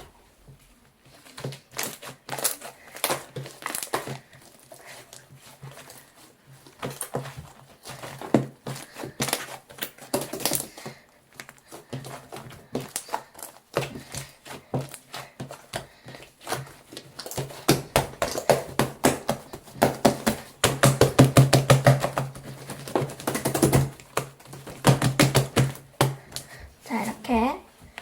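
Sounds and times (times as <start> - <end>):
hands squishing slime: 0.0 - 28.0.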